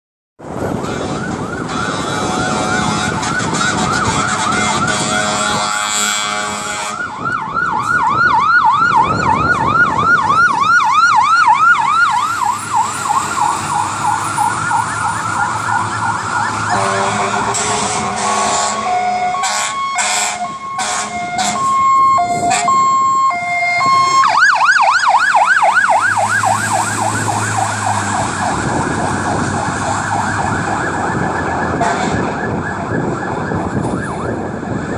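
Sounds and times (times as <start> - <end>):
fire engine siren yelp: 0.4 - 34.9
two-tone hi-lo siren: 0.5 - 34.9.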